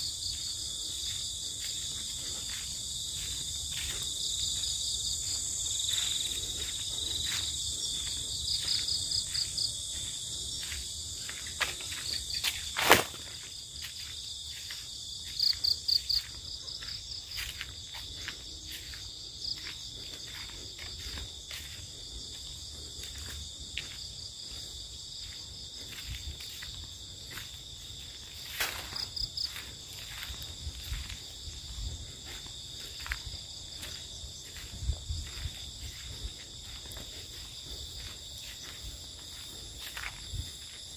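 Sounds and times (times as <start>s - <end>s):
crickets and insects buzzing: 0.0s - 40.9s
pulsing insect trill: 0.0s - 40.9s.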